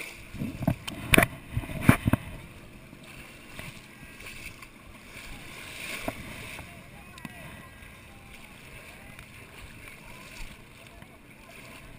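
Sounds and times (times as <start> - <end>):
sea water sloshing and lapping: 0.0 - 11.9.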